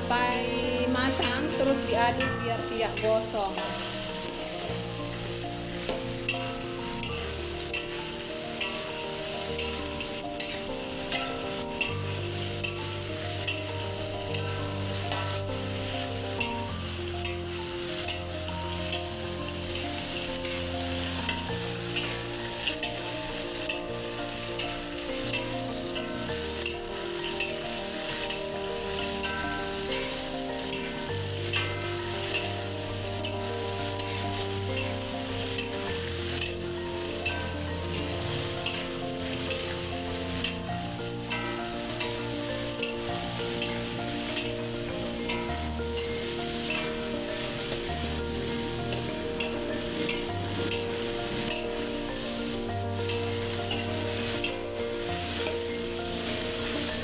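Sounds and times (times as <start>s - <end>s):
peanuts sizzling in hot oil: 0.0s - 57.0s
spatula scraping metal wok: 0.0s - 57.0s.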